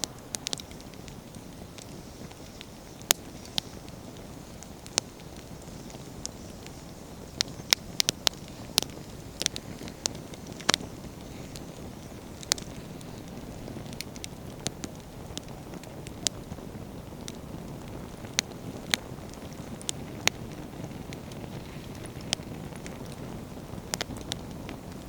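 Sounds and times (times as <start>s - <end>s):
campfire crackling and popping: 0.0s - 25.0s
low fire rumble: 0.0s - 25.0s.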